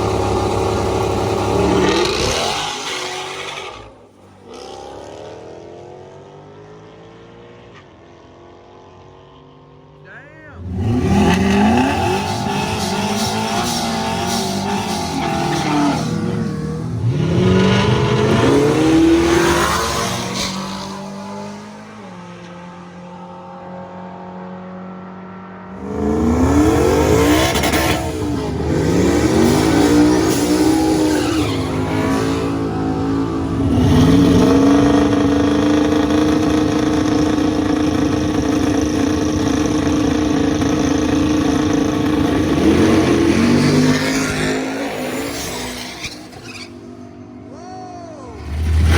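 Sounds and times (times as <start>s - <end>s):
drag race cars accelerating: 0.0s - 9.6s, 10.4s - 47.5s, 48.2s - 48.9s.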